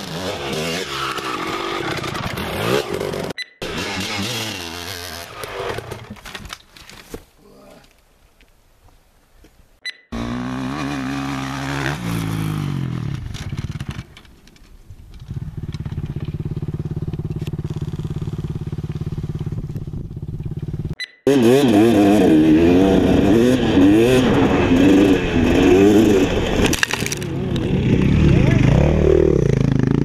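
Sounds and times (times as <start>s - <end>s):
dirt bike engine revving: 0.0s - 6.1s, 10.1s - 14.1s, 15.2s - 30.0s.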